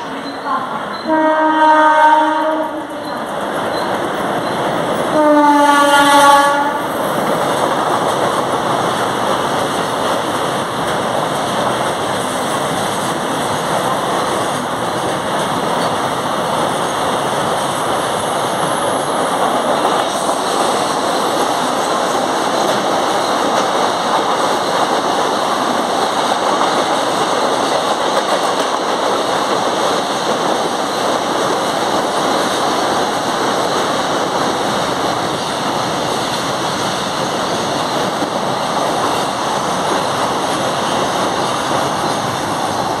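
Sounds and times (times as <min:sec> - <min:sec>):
train wagons rolling over rails: 0:00.0 - 0:43.0.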